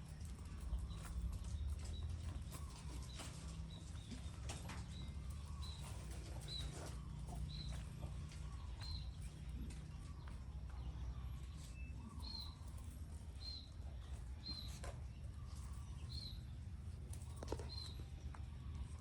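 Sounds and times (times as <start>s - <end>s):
bird chirping: 0.0s - 19.0s
steady low hum: 0.0s - 19.0s.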